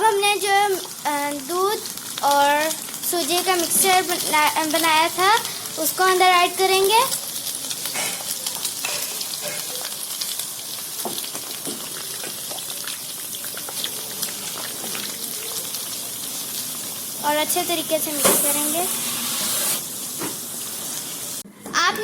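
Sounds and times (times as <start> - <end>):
batter sizzling in hot oil: 0.0 - 21.4.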